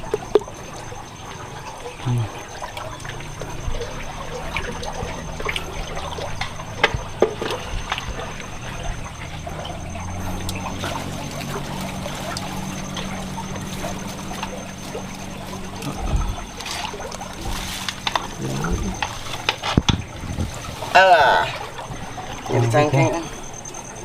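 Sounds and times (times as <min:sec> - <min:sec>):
small splashes and knocks: 0:00.0 - 0:23.8
shallow water sloshing: 0:00.0 - 0:24.0
steady low hum: 0:00.0 - 0:24.0.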